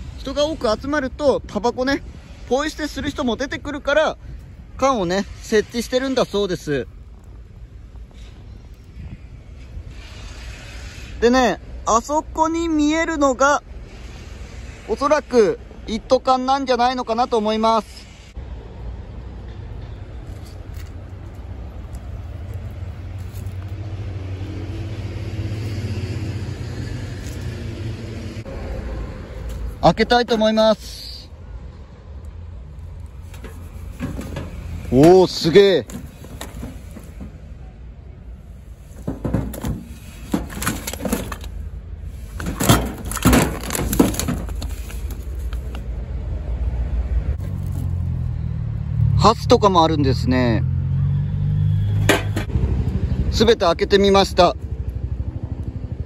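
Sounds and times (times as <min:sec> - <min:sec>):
low rumble of outdoor background: 0:00.0 - 0:56.0.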